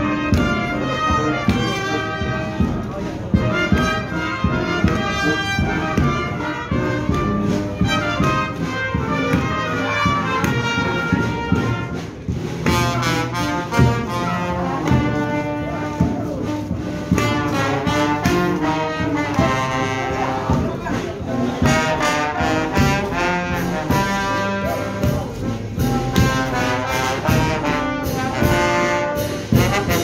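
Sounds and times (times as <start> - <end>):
brass band playing: 0.0 - 30.0
steady drum beat: 0.0 - 30.0.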